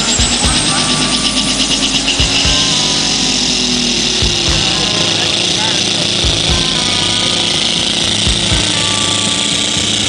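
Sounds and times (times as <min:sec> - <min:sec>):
truck engine at full throttle: 0:00.0 - 0:10.0.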